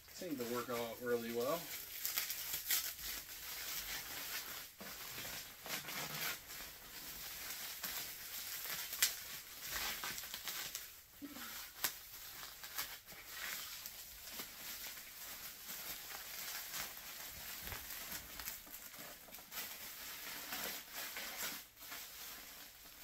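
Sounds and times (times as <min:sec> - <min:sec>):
plastic wrap crinkling and tearing: 0:00.0 - 0:23.0.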